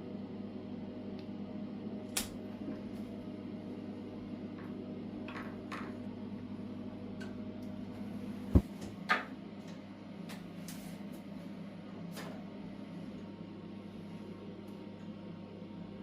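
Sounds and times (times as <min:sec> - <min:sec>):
low appliance hum: 0:00.0 - 0:16.0.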